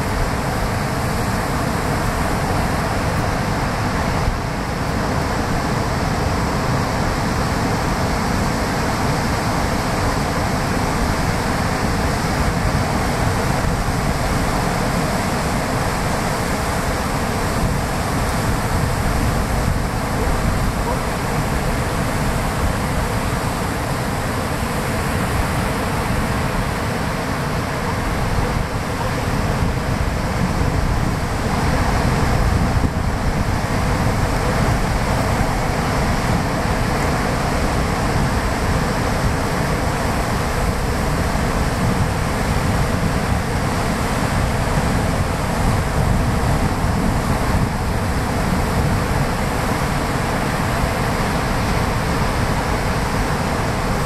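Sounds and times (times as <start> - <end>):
surf breaking on beach: 0.0 - 54.0
wind rumbling on microphone: 0.0 - 54.0.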